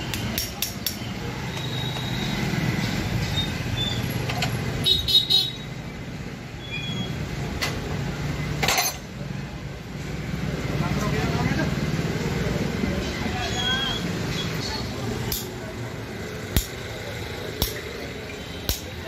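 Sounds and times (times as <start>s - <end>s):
vehicle engines running: 0.0s - 5.0s, 5.6s - 19.0s.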